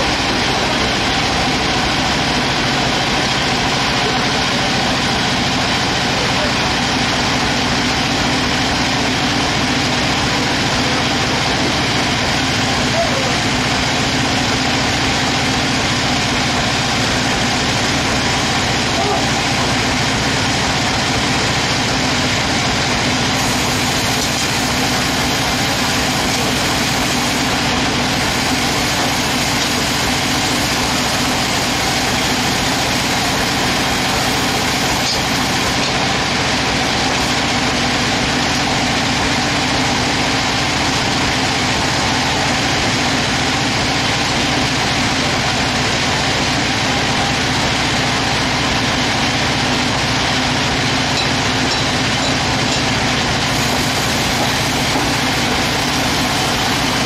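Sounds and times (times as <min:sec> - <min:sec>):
band saw mill idling: 0:00.0 - 0:57.0.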